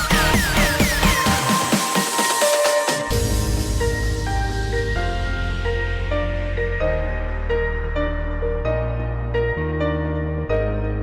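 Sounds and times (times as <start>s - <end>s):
calm synth music: 0.0s - 11.0s.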